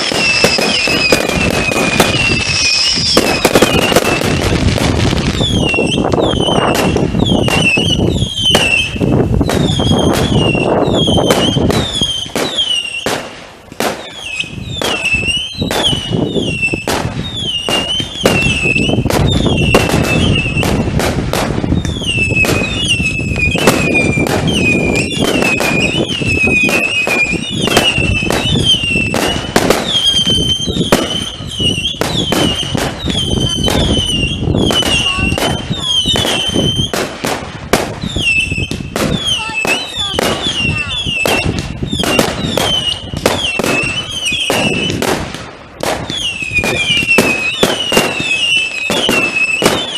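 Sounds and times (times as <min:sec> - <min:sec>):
fireworks bangs and crackles: 0:00.0 - 0:49.9
fireworks high whistles: 0:00.0 - 0:49.9.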